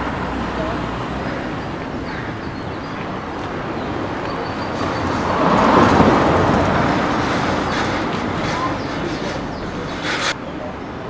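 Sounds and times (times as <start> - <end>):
vehicle passing: 0.0 - 10.4
traffic noise: 0.0 - 11.0.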